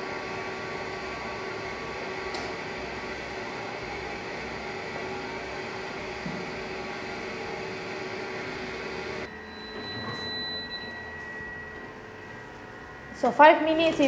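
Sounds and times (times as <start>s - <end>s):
oven fan humming: 0.0s - 14.0s.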